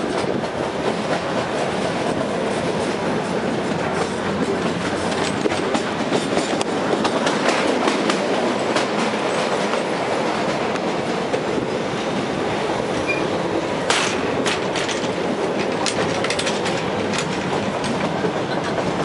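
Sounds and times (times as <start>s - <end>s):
wheels clicking over rail joints: 0.0s - 11.6s, 13.0s - 19.0s.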